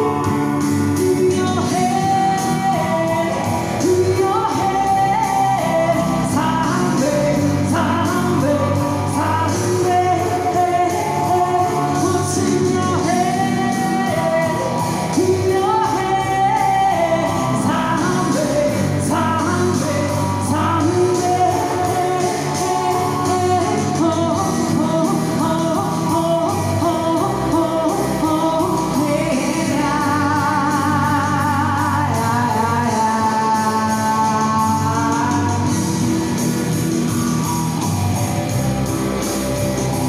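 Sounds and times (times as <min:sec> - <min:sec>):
woman singing: 0:00.0 - 0:36.4.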